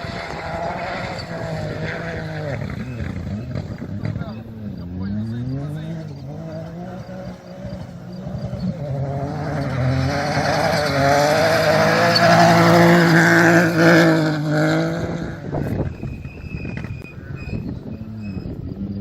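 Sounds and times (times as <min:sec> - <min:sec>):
rally car engine passing: 0:00.0 - 0:19.0
wind and tyre noise: 0:00.0 - 0:19.0.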